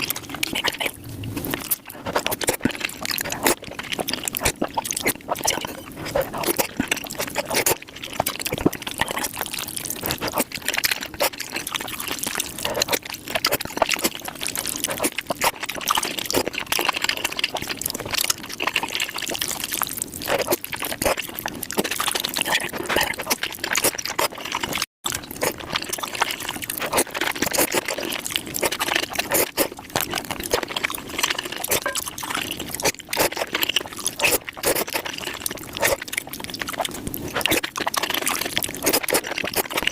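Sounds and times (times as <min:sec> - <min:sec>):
sped-up eating slurps and chewing: 0:00.0 - 0:39.9.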